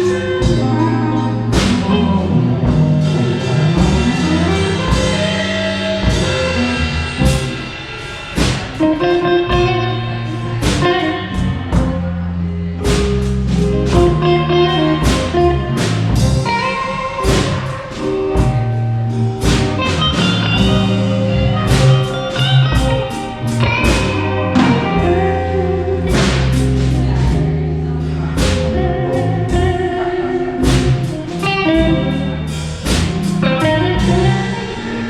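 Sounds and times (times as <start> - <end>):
drum kit with cymbal hits: 0.0 - 35.0
electric bass: 0.0 - 35.0
lead guitar bending lines: 0.0 - 35.0.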